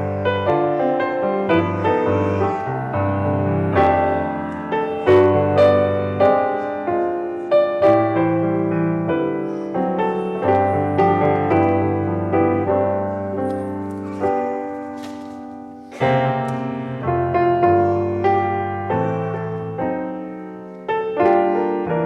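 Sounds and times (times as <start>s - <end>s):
slow solo piano piece: 0.0s - 22.0s.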